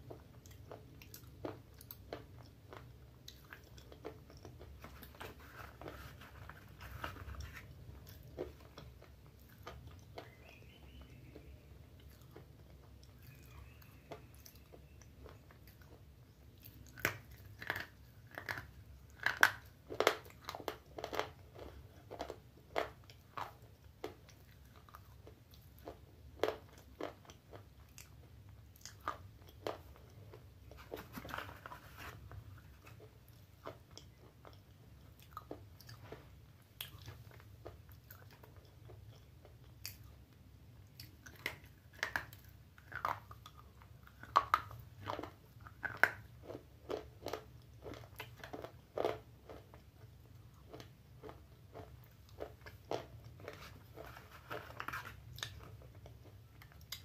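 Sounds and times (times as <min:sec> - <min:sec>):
dry gritty chewing crunches: 0:00.0 - 0:57.0.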